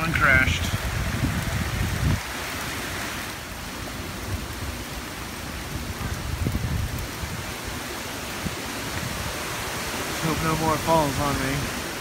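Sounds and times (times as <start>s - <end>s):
wind rumble on microphone: 0.0s - 10.2s
heavy rain on foliage: 0.0s - 12.0s.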